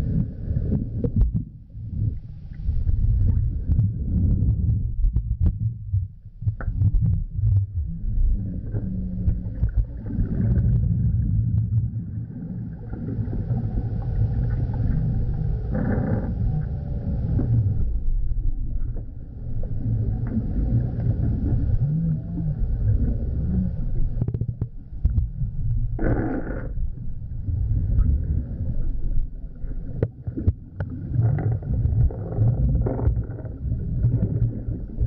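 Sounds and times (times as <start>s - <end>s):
underwater water churning: 6.4s - 35.0s.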